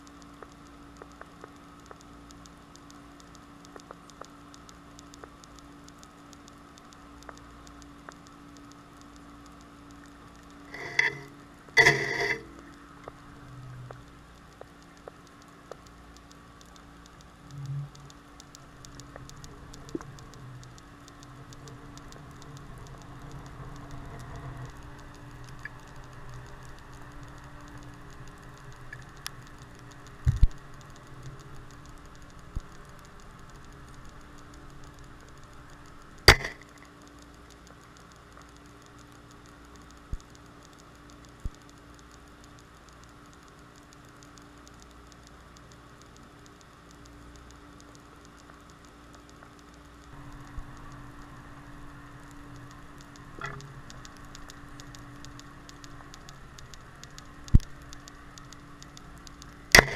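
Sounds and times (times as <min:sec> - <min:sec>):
faint clicks: 0:00.0 - 0:59.9
underwater low hum: 0:00.0 - 0:59.9.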